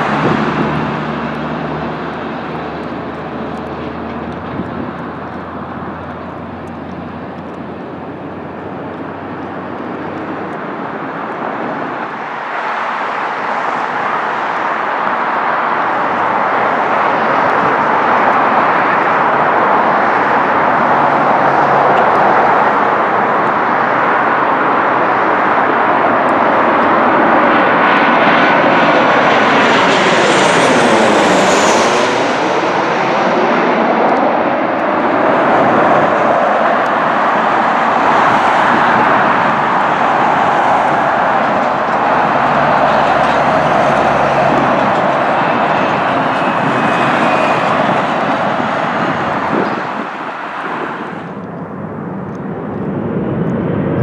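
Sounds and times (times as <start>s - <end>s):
airliner approaching overhead: 0.0s - 54.0s
high fan whine: 0.0s - 54.0s
jet noise at runway: 0.0s - 54.0s.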